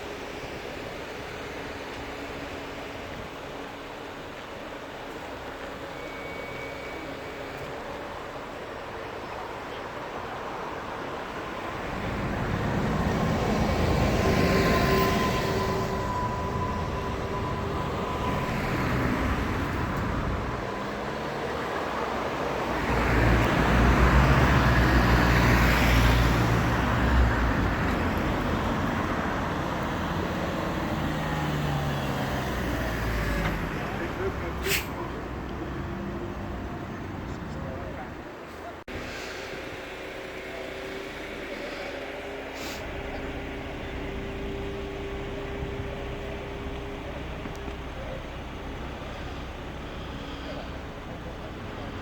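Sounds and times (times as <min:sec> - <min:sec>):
trams passing: 0:00.0 - 0:52.0.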